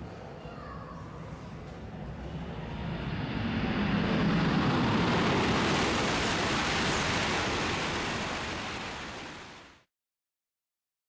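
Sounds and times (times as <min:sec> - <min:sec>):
high-speed train passing: 0:01.0 - 0:09.9.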